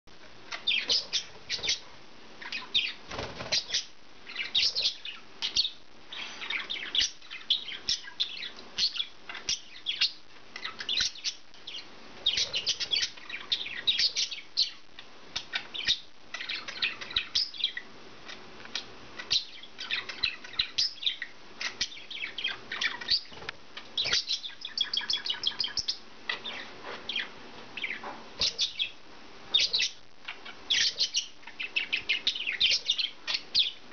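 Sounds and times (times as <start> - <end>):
budgerigars chirping: 0.5 - 17.9, 18.7 - 33.9.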